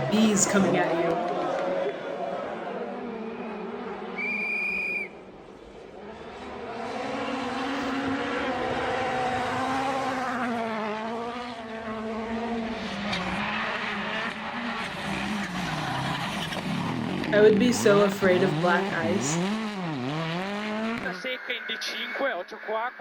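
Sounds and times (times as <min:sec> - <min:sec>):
rally car engine at high revs: 0:00.0 - 0:04.2, 0:05.6 - 0:21.2.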